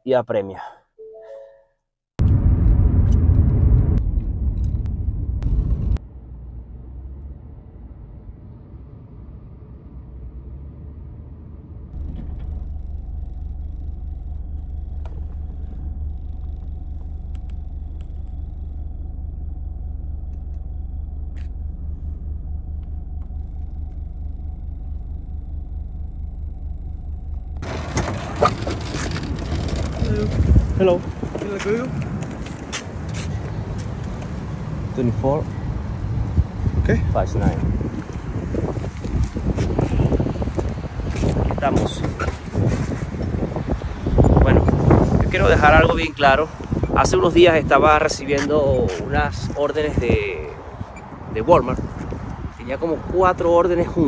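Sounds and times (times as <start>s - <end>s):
car engine and road noise: 2.2s - 54.0s.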